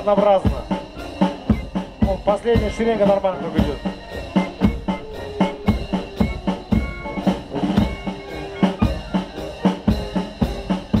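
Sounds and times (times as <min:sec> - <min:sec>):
marching drum beat: 0:00.0 - 0:11.0.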